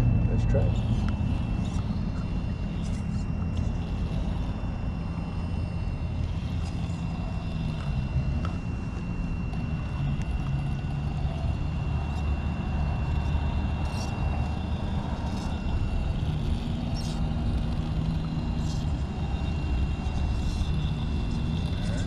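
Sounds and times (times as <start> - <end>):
electric motor and gears whirring: 0.0 - 22.0.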